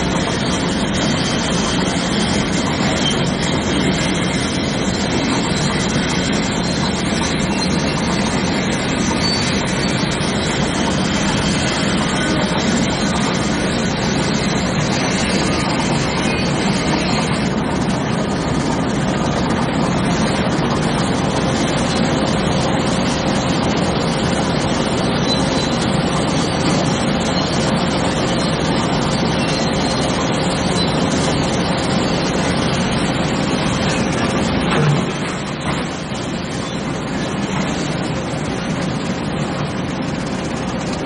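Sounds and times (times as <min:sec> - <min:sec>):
heavy vehicle engine running: 0:00.0 - 0:41.0.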